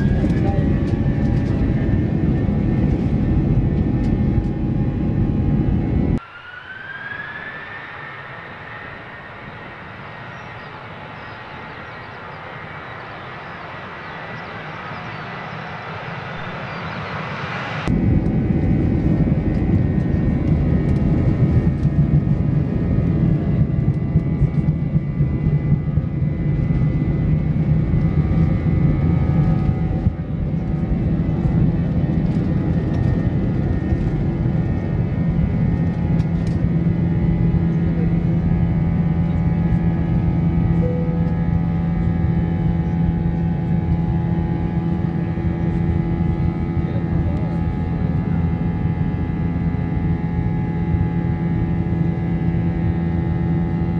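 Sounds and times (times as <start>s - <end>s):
jet engines at takeoff power: 0.0s - 53.9s
loud roar inside aircraft cabin: 0.0s - 53.9s.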